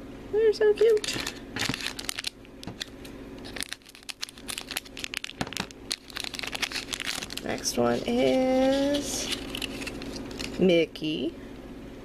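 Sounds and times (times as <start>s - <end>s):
plastic wrapper crinkling: 0.8s - 10.6s.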